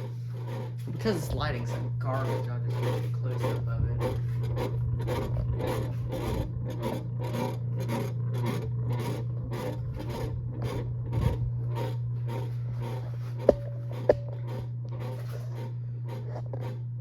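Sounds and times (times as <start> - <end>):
ceiling fan motor hum: 0.0 - 17.0
rhythmic rasping scrape: 0.0 - 17.0.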